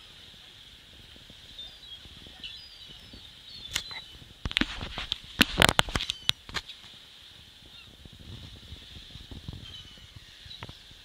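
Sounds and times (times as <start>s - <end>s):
wind whooshes on microphone: 0.0s - 11.0s.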